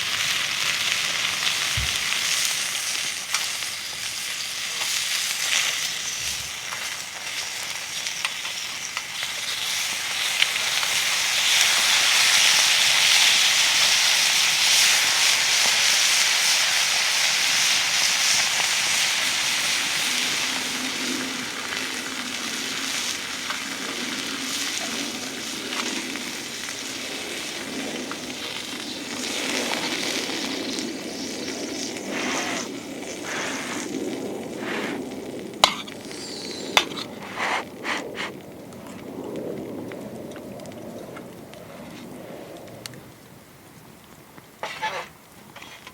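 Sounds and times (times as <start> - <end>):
food sizzling in a pan: 0.0 - 37.6.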